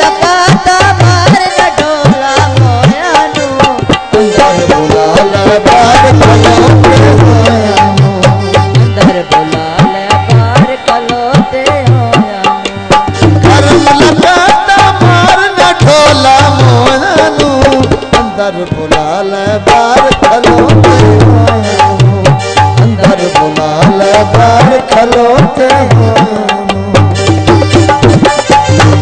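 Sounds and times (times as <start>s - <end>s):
hand drums beating: 0.0s - 29.0s
ornamented folk melody: 0.0s - 29.0s.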